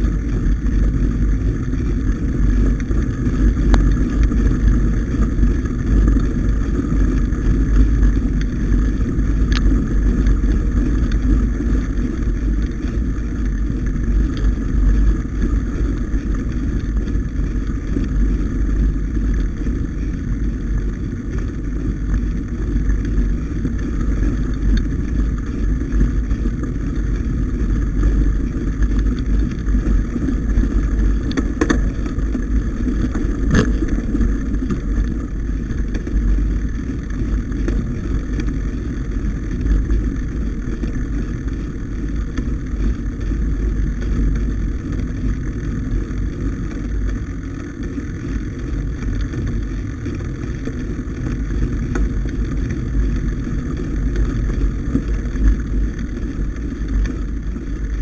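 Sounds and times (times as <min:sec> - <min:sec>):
bike tyres rolling on dirt: 0:00.0 - 0:58.0
wind buffeting camera: 0:00.0 - 0:58.0.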